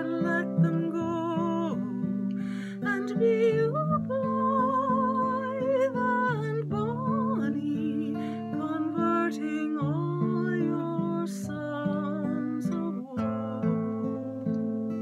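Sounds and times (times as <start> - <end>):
acoustic guitar: 0.0 - 15.0
woman singing: 0.0 - 15.0.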